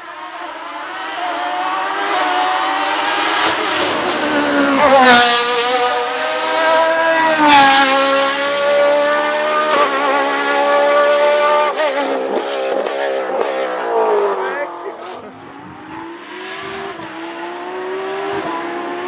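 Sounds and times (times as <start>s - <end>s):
race car engine accelerating: 0.2s - 19.0s.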